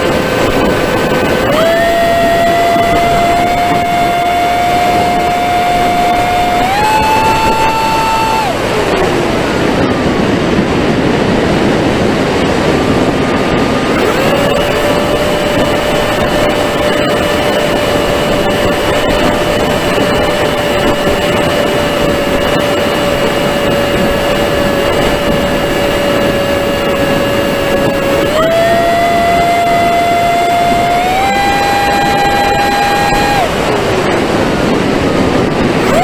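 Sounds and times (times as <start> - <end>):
electric motor whine: 0.0 - 11.4, 12.7 - 36.0
rushing wind: 0.0 - 36.0.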